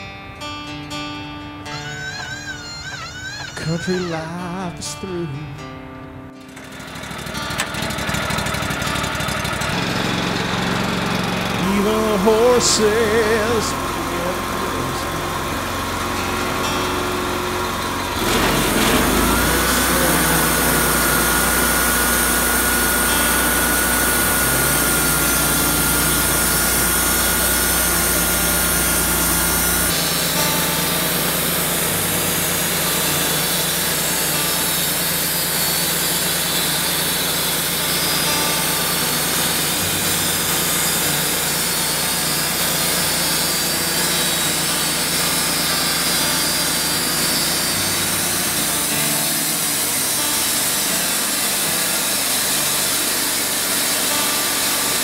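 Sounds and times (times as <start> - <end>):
sawmill engine: 1.6 - 5.6, 6.4 - 55.0
band saw blade cutting log: 1.7 - 4.2, 6.4 - 55.0.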